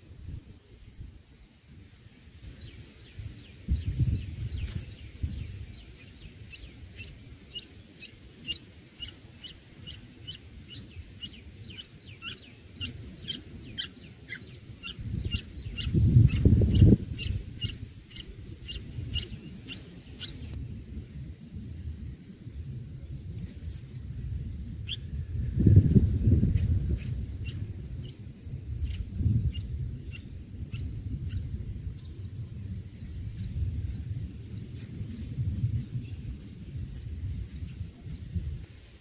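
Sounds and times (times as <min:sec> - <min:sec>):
birds chirping: 0:01.3 - 0:20.6, 0:24.8 - 0:38.4.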